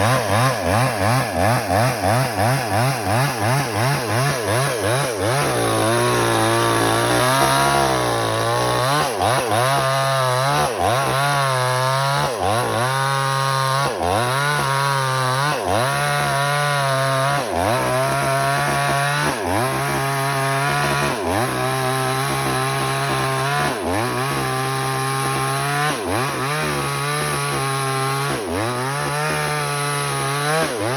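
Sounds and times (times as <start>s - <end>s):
motorised saw cutting wood: 0.0s - 30.9s.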